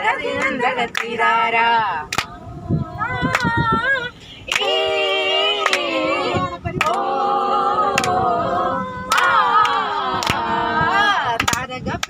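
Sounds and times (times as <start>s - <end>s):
voices singing long held notes: 0.0s - 11.4s.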